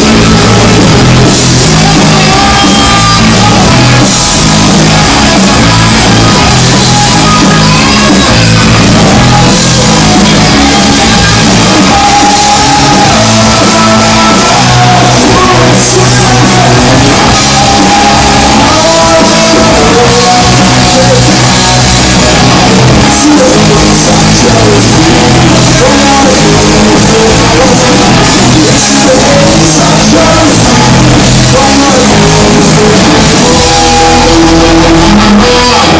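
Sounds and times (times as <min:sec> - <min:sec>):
rock band playing loud: 0:00.0 - 0:35.9
sung and shouted vocals: 0:00.0 - 0:35.9.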